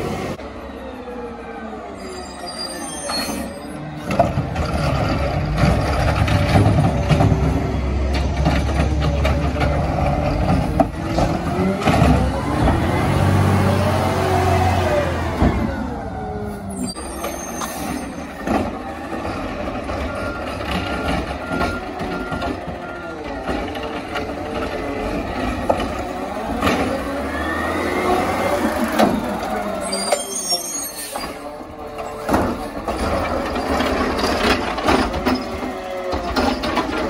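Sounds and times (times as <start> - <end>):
garbage truck engine revving: 4.1 - 17.5, 18.1 - 37.0.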